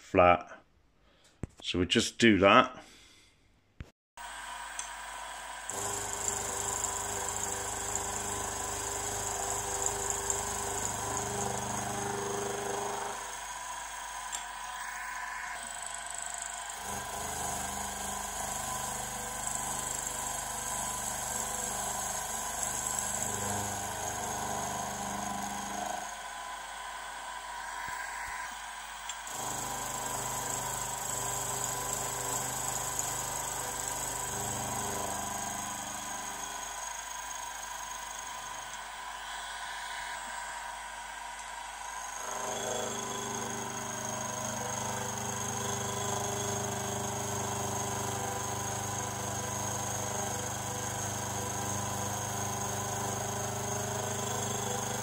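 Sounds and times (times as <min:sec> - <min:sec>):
milling machine whine and cutting: 0:04.2 - 0:55.0.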